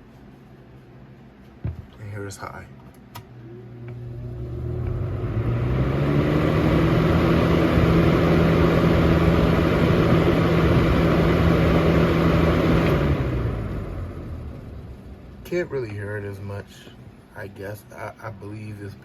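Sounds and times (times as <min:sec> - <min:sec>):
fan motor humming: 0:00.0 - 0:19.0.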